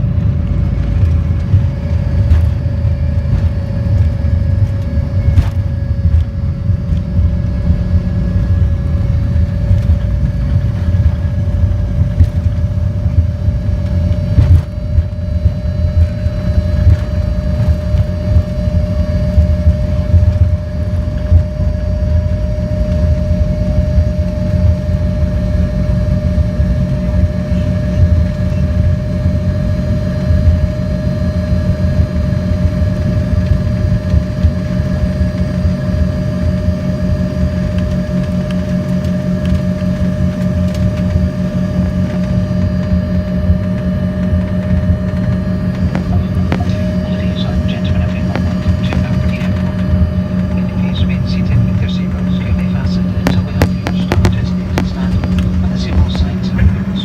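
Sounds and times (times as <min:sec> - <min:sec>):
engine whine: 0:00.0 - 0:57.0
jet engine low rumble: 0:00.0 - 0:57.0.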